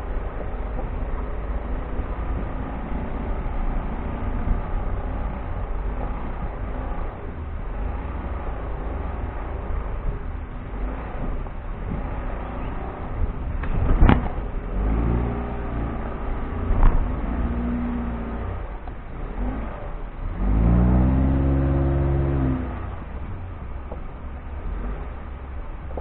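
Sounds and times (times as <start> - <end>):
low rumble: 0.0 - 26.0
vehicle engine revving: 0.0 - 26.0.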